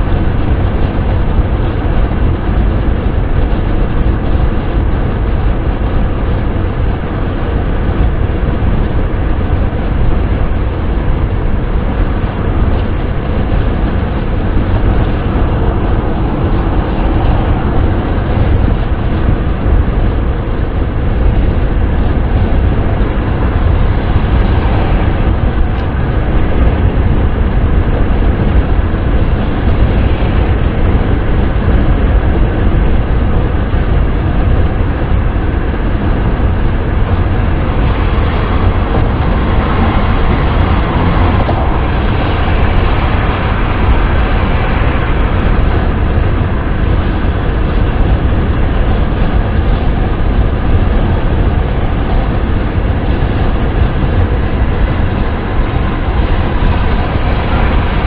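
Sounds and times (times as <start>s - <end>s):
car wind and road noise: 0.0s - 58.0s.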